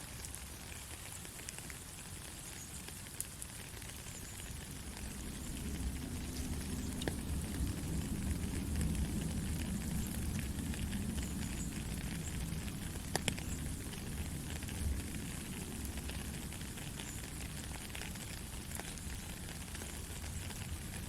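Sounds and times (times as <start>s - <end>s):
soft rain pattering: 0.0s - 21.0s.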